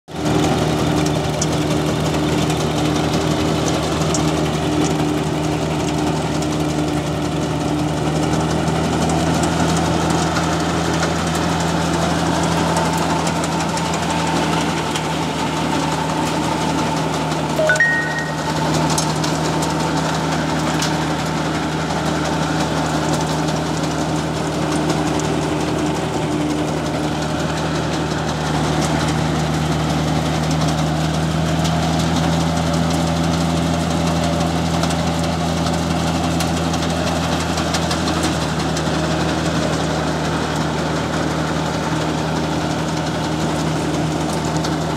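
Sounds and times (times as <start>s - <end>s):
tractor engine running under load: 0.1s - 44.9s.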